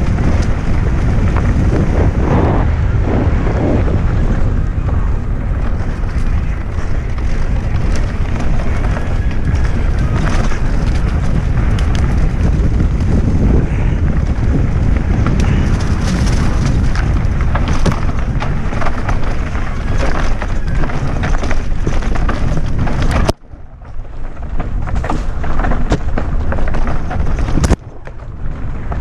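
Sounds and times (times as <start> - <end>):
bike clicks and rattles: 0.0 - 2.2, 4.0 - 29.0
tyres rumbling on dirt and rocks: 0.0 - 29.0
wind buffeting microphone: 0.0 - 29.0.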